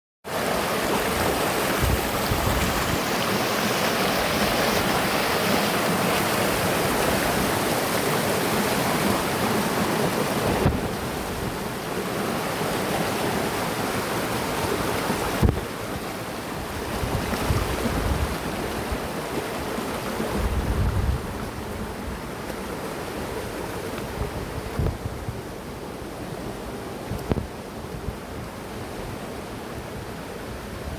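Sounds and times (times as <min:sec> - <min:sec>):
river water rushing over rocks: 0:00.3 - 0:30.9.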